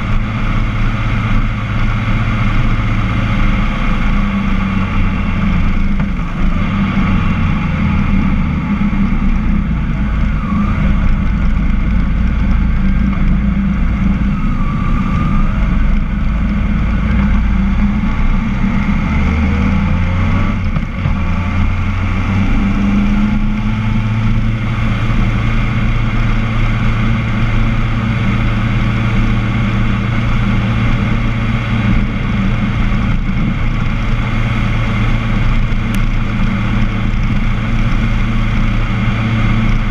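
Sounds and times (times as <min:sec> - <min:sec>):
car engine running: 0:00.0 - 0:39.9
tyres rolling on road: 0:00.0 - 0:39.9.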